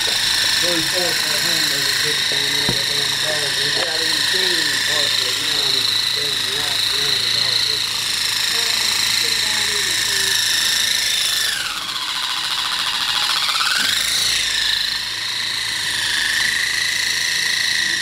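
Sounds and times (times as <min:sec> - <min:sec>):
toy helicopter high-pitched whine: 0:00.0 - 0:18.0.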